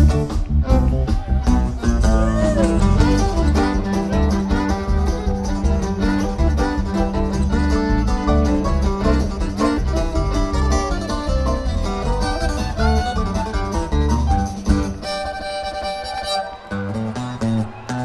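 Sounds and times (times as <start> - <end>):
steady beat: 0.0 - 15.0
plucked string instrumental music: 0.0 - 18.0.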